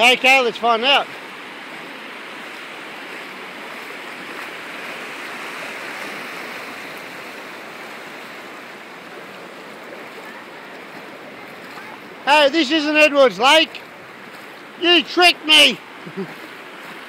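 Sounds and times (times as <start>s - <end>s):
floodwater rushing and sloshing: 0.0s - 17.0s.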